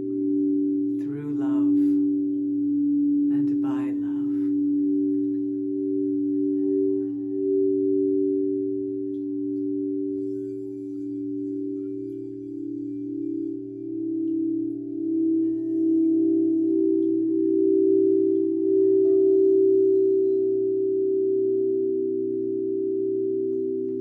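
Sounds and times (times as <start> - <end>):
singing bowl humming: 0.0 - 24.0.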